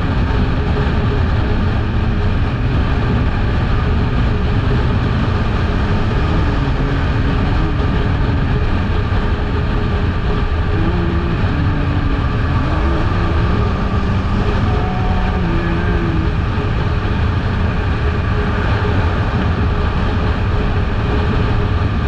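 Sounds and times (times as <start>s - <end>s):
motorcycle engine running: 0.0s - 22.0s
wind noise on microphone: 0.0s - 22.0s.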